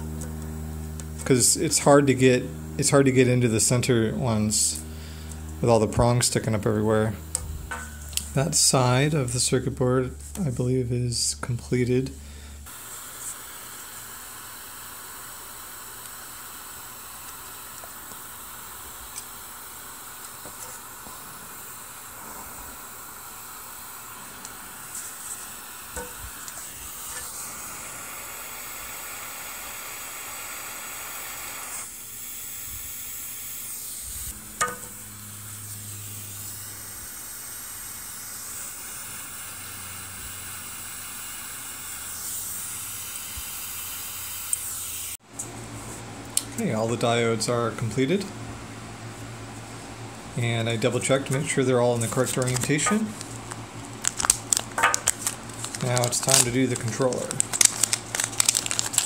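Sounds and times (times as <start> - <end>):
steady hiss: 0.0 - 45.2, 50.4 - 59.0.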